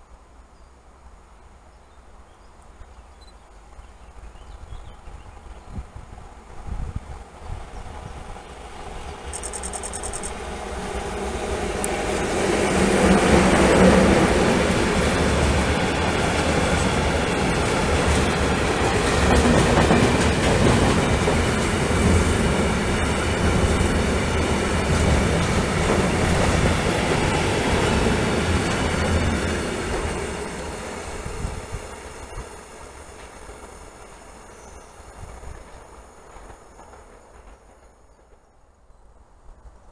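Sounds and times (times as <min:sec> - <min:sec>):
freight train rolling past: 0:03.5 - 0:39.9.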